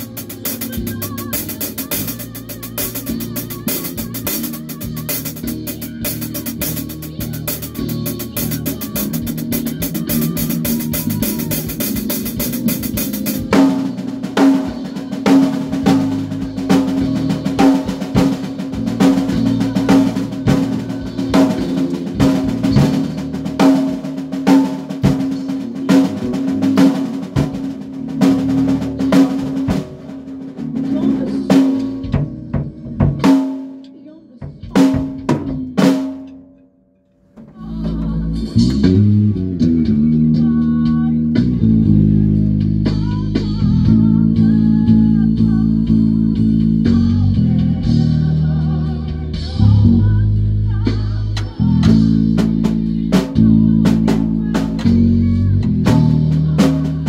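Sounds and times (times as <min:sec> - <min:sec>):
drum kit playing steady beat: 0:00.0 - 0:57.0.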